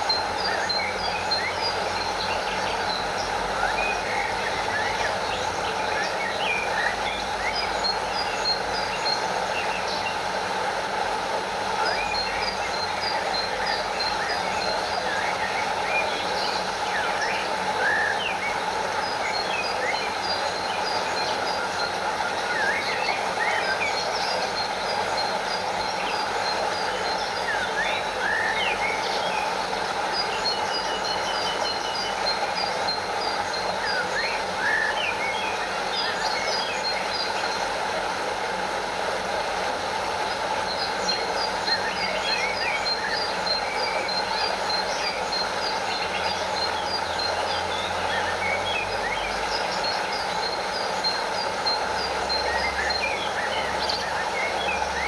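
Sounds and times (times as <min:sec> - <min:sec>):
stream and small waterfall: 0:00.0 - 0:55.0.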